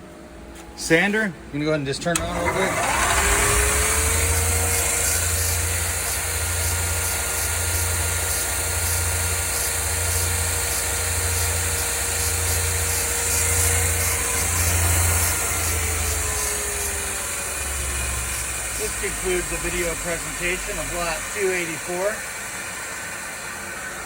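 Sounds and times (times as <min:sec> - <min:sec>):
belt sander motor hum: 0:01.8 - 0:24.0.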